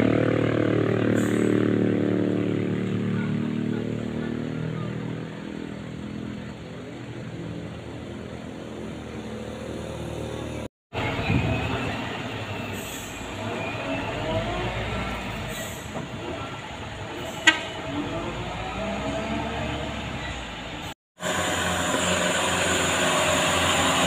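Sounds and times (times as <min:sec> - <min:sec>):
truck diesel engine under load: 0:00.0 - 0:24.0.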